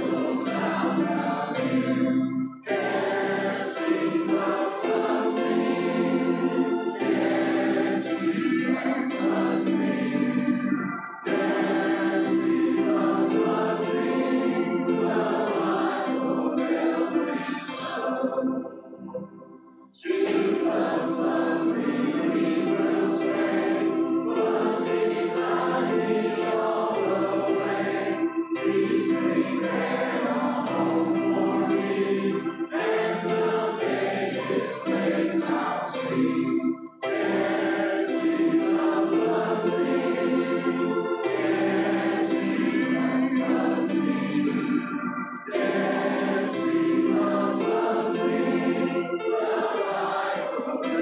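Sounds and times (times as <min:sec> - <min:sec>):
congregation singing a hymn: 0:00.0 - 0:51.0.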